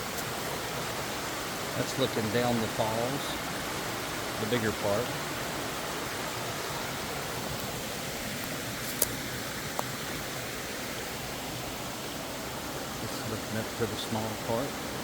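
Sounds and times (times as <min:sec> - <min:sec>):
waterfall pouring into a pool: 0:00.0 - 0:15.0.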